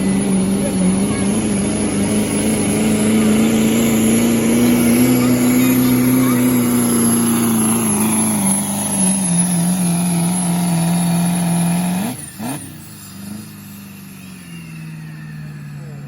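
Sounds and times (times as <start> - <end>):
diesel truck engine running hard: 0.0 - 16.0.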